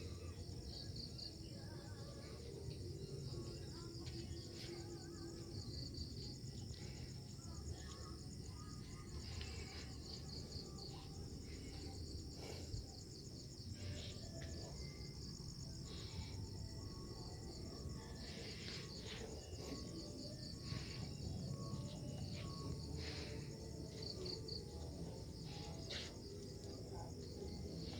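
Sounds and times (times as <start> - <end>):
crickets chirping: 0.0 - 27.9.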